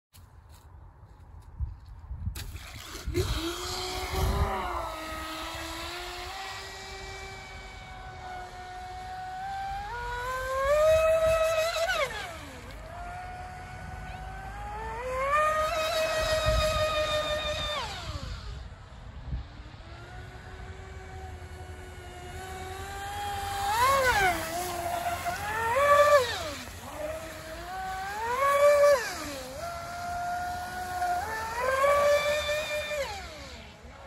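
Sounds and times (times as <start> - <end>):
rc speedboat motor whine: 2.4 - 34.0.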